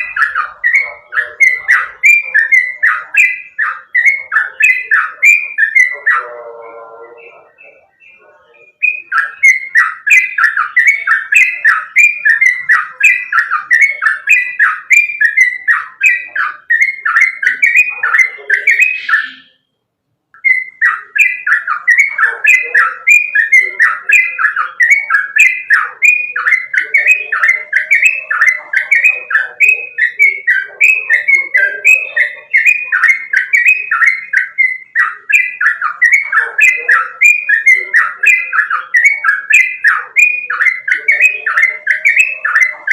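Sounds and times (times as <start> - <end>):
bird singing fast chirps: 0.0 - 19.8, 20.4 - 42.9.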